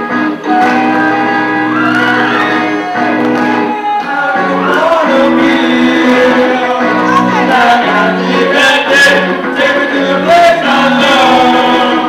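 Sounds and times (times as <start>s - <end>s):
amplified electric guitar chords: 0.0s - 12.0s
male voices singing: 2.1s - 12.0s.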